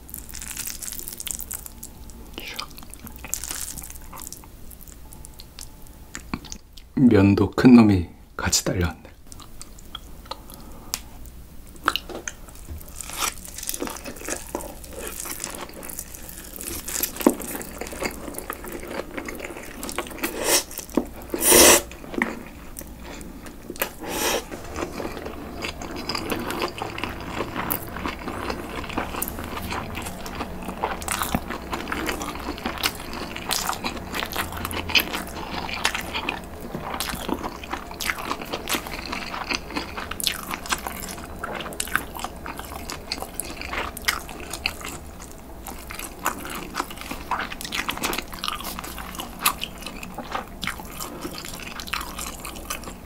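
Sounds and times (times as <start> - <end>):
chewing with crunches: 0.0 - 6.9, 9.2 - 53.0.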